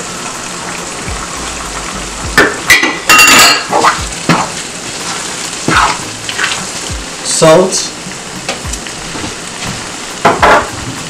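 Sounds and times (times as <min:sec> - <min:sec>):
steady sizzle: 0:00.0 - 0:11.0.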